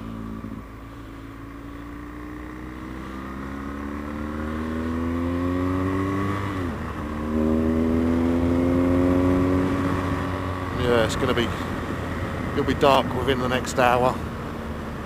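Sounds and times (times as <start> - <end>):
motorcycle engine accelerating: 0.0 - 15.0
wind and road rumble: 0.0 - 15.0.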